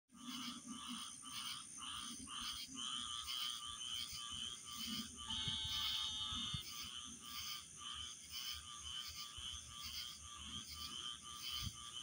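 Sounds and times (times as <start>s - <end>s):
frogs chirping: 0.1s - 12.0s.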